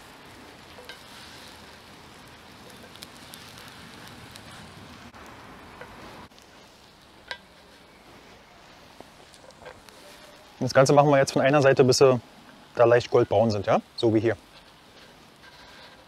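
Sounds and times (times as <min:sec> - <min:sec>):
bread sizzling in oil: 0:00.0 - 0:11.9, 0:12.6 - 0:16.0.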